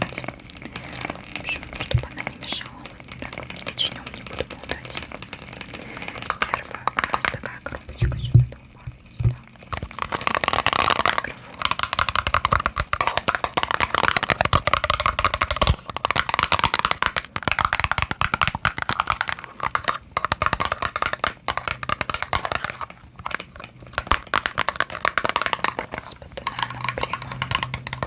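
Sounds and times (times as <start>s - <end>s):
rapid tapping on small box: 4.0s - 28.0s.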